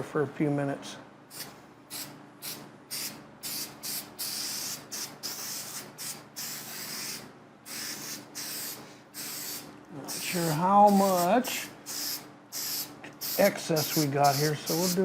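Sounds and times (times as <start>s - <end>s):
aerosol spray hissing: 1.3s - 15.0s.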